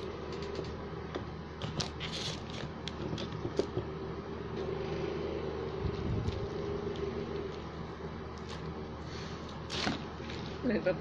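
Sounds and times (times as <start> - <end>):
steady room hum: 0.0 - 11.0.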